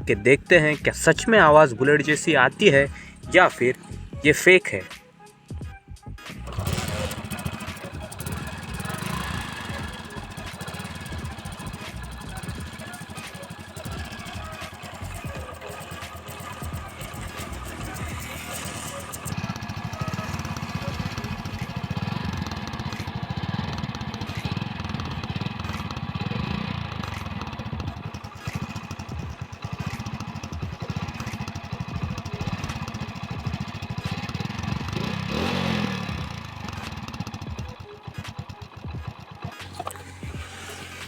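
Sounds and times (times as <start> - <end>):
motorcycle engine putter: 6.3 - 41.0.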